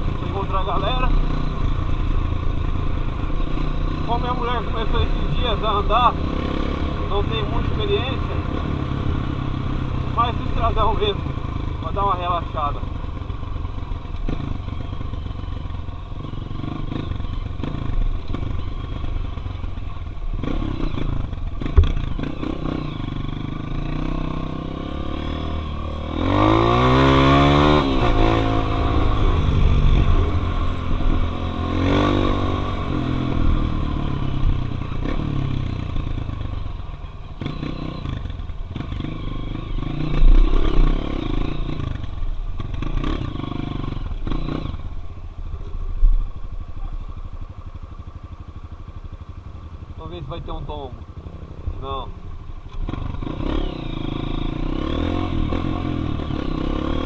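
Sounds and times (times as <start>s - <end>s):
dirt bike engine revving: 0.0s - 45.0s, 49.0s - 57.0s.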